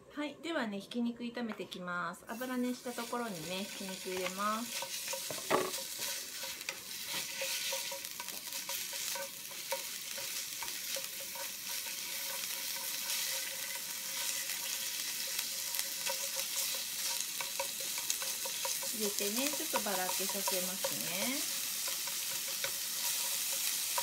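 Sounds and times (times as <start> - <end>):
meat sizzling in hot oil: 2.3 - 24.0
chopsticks tapping and scraping pan: 2.8 - 24.0.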